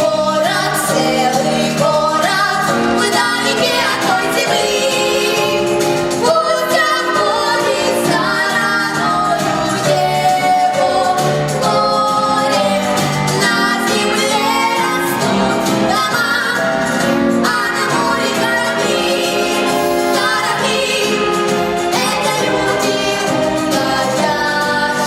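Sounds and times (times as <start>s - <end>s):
instrumental accompaniment: 0.0s - 25.0s
woman singing a ballad: 0.0s - 25.0s.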